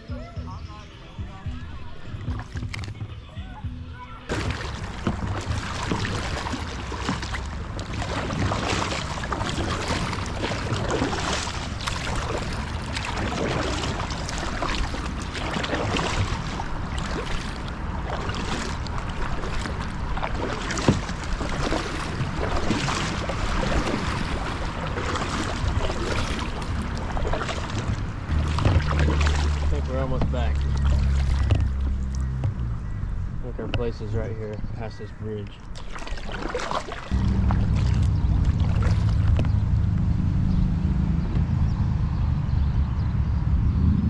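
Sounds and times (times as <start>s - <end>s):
wind buffeting microphone: 4.3s - 35.7s, 37.1s - 44.0s
water washing: 4.3s - 40.0s.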